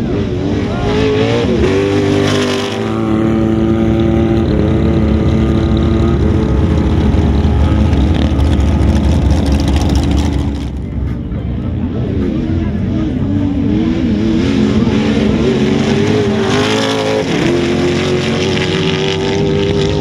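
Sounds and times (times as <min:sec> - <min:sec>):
sand rail engine revving: 0:00.0 - 0:11.3, 0:12.4 - 0:20.0.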